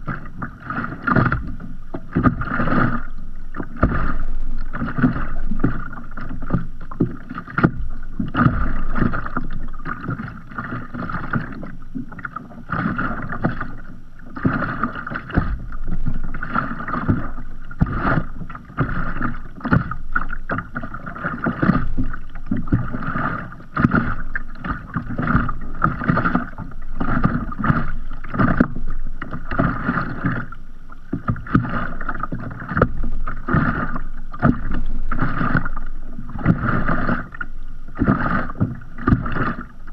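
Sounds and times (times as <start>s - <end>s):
waves lapping against kayak hull: 0.0s - 39.9s.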